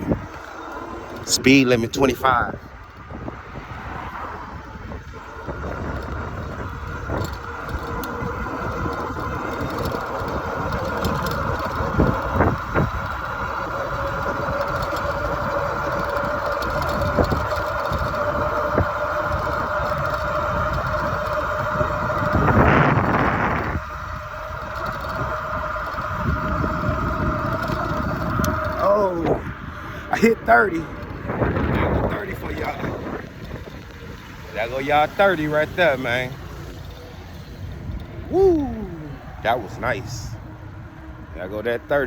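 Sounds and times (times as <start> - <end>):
wind noise on microphone: 0.0 - 41.4
electric bike motor whining: 0.0 - 42.0
road rumble: 0.0 - 42.0.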